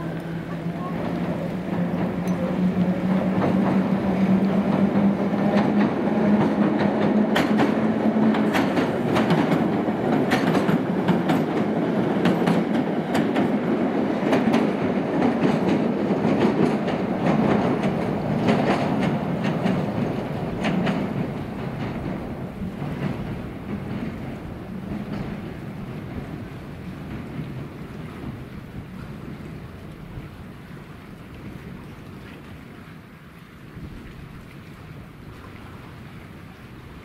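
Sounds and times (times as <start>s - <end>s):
wheels clicking over rail joints: 0.0s - 30.5s
train low hum: 0.0s - 37.0s.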